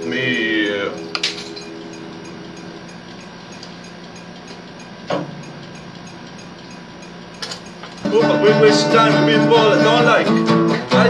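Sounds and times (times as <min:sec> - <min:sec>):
acoustic guitar notes ringing: 0:00.0 - 0:04.3, 0:04.9 - 0:11.0
faint room hum: 0:00.0 - 0:11.0
light regular ticking: 0:00.0 - 0:11.0.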